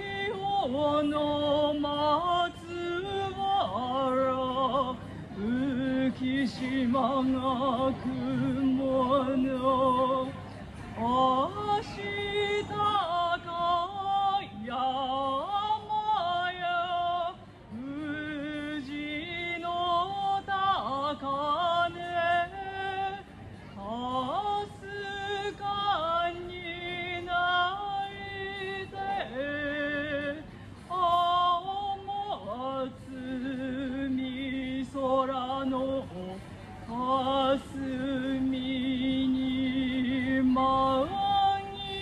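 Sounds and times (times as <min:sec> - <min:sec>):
woman singing into a microphone: 0:00.0 - 0:42.0.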